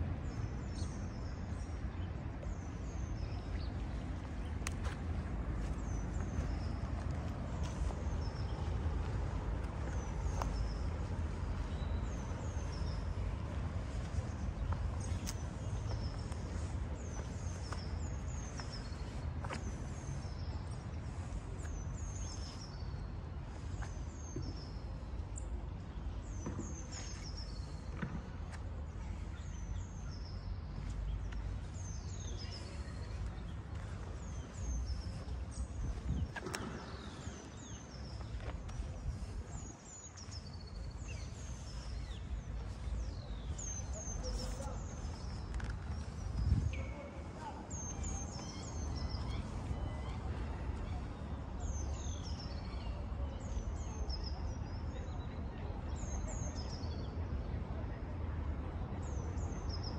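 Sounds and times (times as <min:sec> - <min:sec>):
street ambience rumble: 0:00.0 - 0:59.9
small birds chirping: 0:00.2 - 0:57.1.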